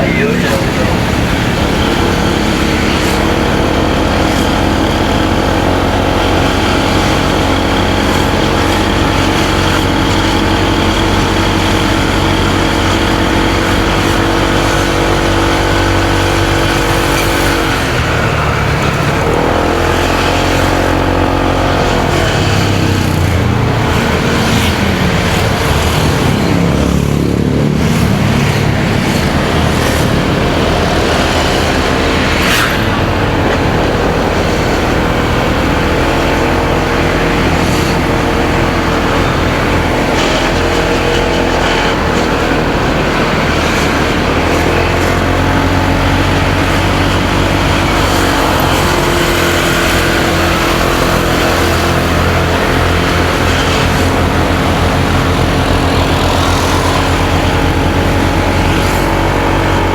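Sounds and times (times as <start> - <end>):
motorcycle engine under load: 0.0 - 59.9
wind and road noise: 0.0 - 59.9.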